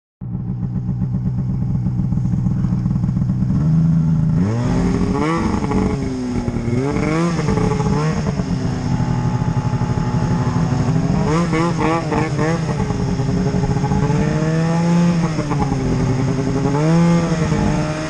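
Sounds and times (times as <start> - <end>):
snowmobile engine idling and revving: 0.2 - 18.0.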